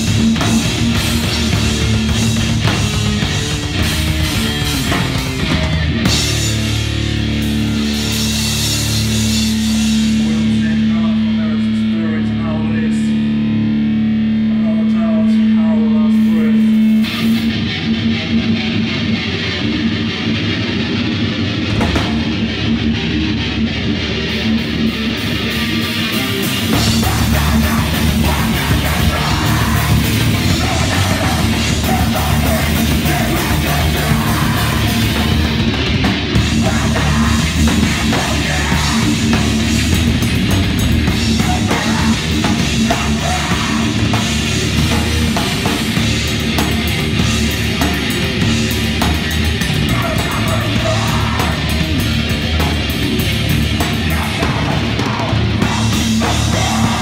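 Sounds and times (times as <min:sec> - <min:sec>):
bass guitar: 0:00.0 - 0:57.0
distorted electric guitar: 0:00.0 - 0:57.0
drums: 0:00.0 - 0:57.0.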